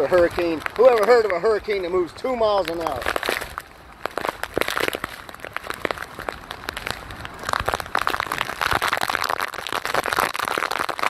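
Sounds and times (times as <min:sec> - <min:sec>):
wind gusts rumbling on microphone: 0:00.0 - 0:11.0.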